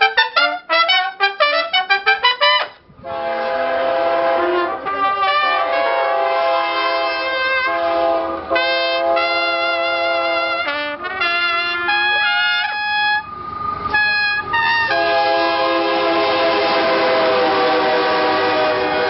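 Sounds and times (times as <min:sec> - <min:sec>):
trumpets playing mariachi melody: 0:00.0 - 0:13.3, 0:13.9 - 0:19.0
diesel locomotive passing: 0:00.0 - 0:19.0.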